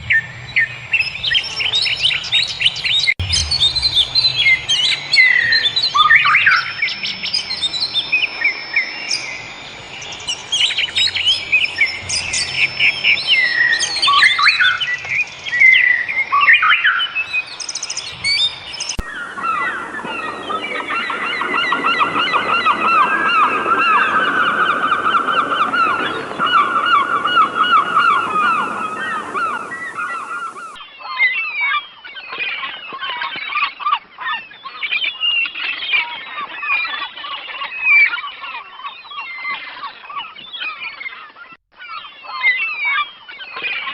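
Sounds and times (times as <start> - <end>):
wild birds singing and calling: 0.0 - 43.9.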